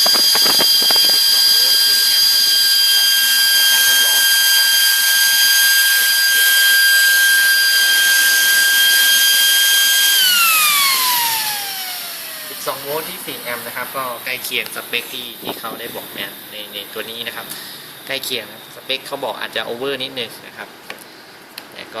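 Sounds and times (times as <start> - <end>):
fan whining: 0.0 - 19.0.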